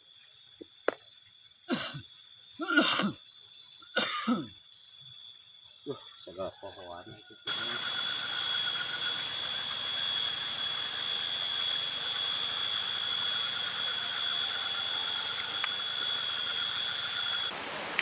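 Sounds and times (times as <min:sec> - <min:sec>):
high-pitched ringing tone: 0:00.0 - 0:17.5
low wavering buzz: 0:00.0 - 0:17.5.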